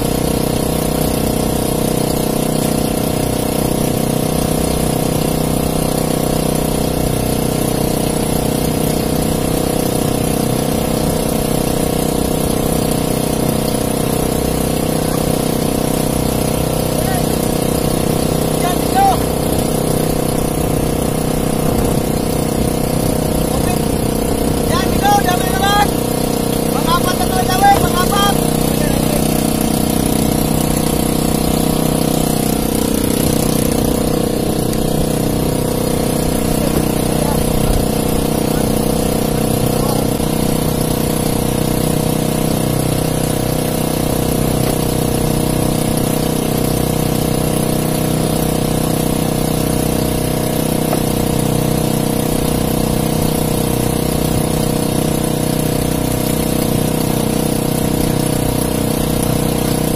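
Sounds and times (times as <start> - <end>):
small boat engine running: 0.0 - 59.9.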